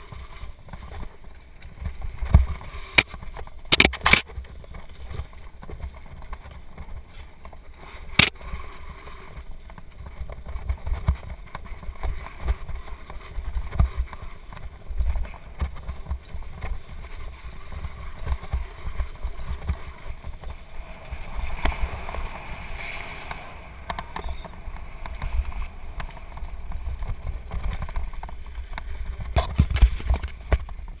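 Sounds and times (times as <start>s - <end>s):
bike rattling: 0.0s - 31.0s
tyres on dirt: 0.0s - 31.0s
wind rumbling on microphone: 0.0s - 31.0s.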